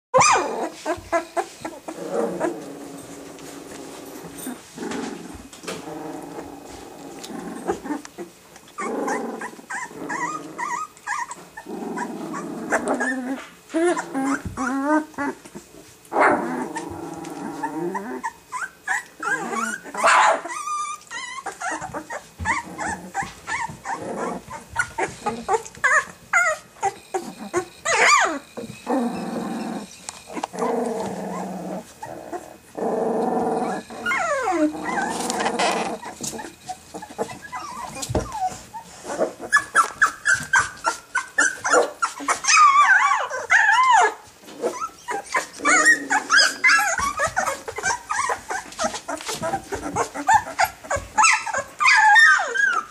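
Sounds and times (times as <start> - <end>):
puppies squealing: 0.2 - 3.1, 7.5 - 15.4, 16.2 - 32.7, 33.4 - 52.9
puppies growling: 0.2 - 52.9.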